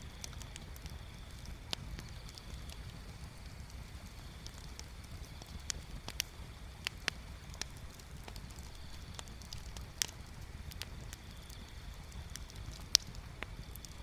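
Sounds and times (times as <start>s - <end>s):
wood bonfire crackling: 0.0s - 14.0s.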